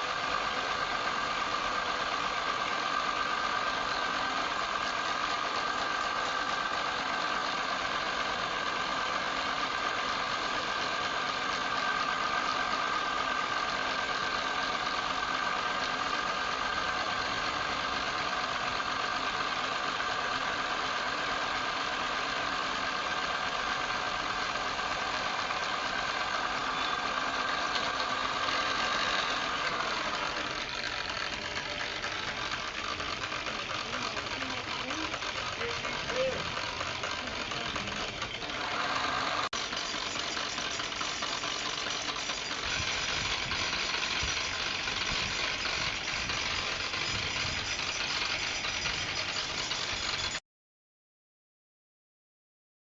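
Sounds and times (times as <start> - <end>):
wood lathe motor whining: 0.0 - 50.4.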